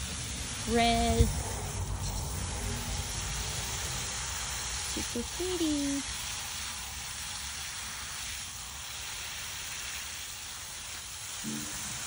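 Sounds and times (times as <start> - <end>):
hose nozzle spraying water: 0.0 - 12.0.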